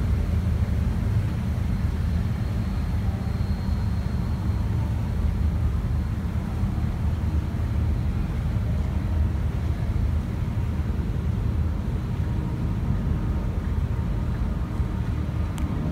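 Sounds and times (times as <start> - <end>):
faint machinery tones: 0.0 - 15.9.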